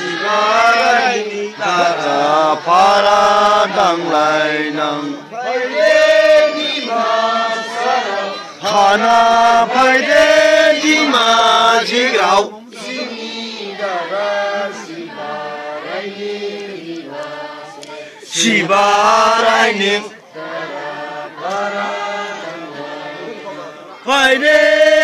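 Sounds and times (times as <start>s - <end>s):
men chanting slowly: 0.0s - 25.0s.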